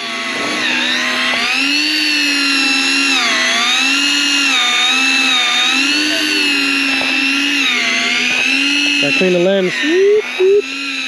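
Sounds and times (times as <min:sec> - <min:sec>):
electric fishing reel motor whining: 0:00.0 - 0:11.0.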